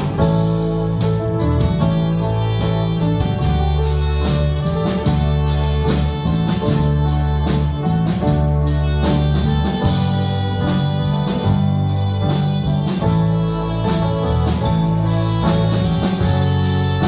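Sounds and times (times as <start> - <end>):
guitar: 0.0 - 17.0
regular drum beat: 0.0 - 17.0
sustained bass notes: 0.0 - 17.0.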